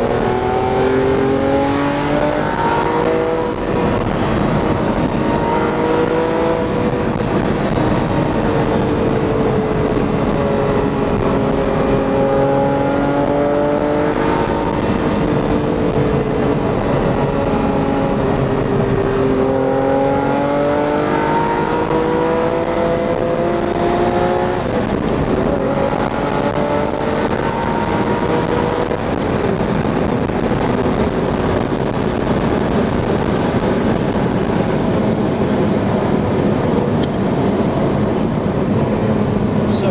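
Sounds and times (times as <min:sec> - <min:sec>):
car engine from inside cabin: 0:00.0 - 0:39.9.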